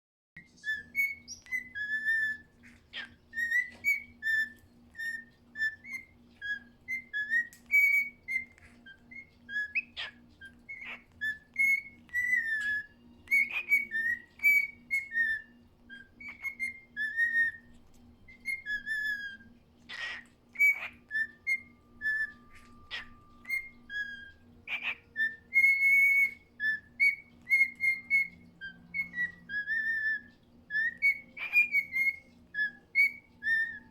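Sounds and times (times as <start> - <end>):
cockatiel whistling: 0.4 - 33.9.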